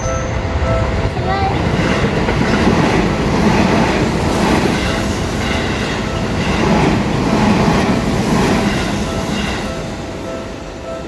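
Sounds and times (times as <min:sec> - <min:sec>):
clickety-clack of rail joints: 0:00.0 - 0:11.0
train wheels rumbling on rails: 0:00.0 - 0:11.0.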